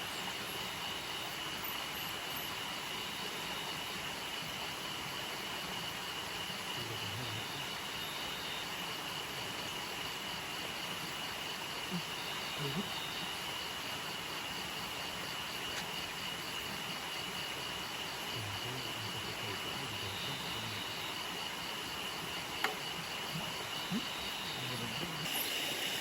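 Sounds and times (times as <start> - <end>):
insect high continuous trill: 0.0 - 26.0
insect pulsing chirp: 0.0 - 26.0.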